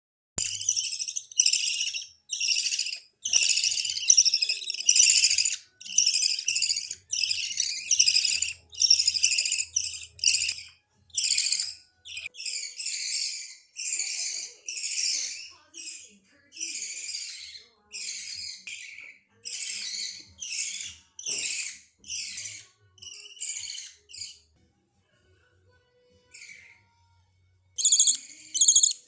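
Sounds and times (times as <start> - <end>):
chicks begging calls: 0.4 - 18.7, 19.4 - 24.3, 27.8 - 29.0.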